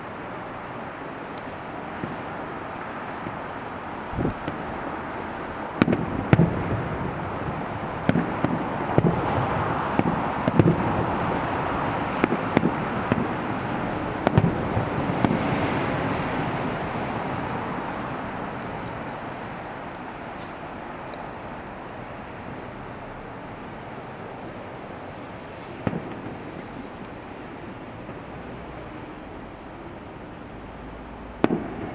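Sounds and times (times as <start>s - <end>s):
fireworks bangs: 0.0s - 31.9s
steady rushing noise: 0.0s - 31.9s.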